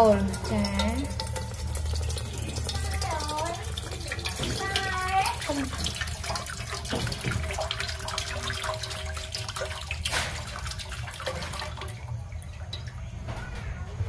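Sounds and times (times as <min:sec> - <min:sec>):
coconut water pouring and splashing: 0:00.0 - 0:13.2
faint dripping: 0:00.0 - 0:13.5.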